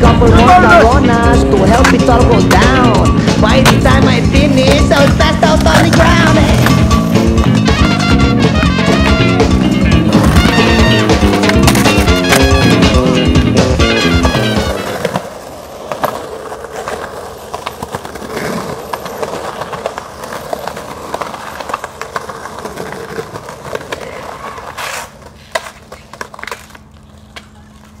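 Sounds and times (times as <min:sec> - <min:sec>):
skateboard wheels on rough concrete: 0:00.0 - 0:28.0
skateboard clacks: 0:00.4 - 0:28.0
skateboard crash: 0:03.5 - 0:26.8.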